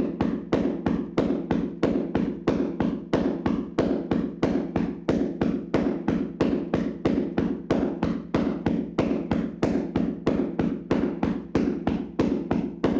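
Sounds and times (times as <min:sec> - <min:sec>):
hands slapping a body: 0:00.0 - 0:12.9.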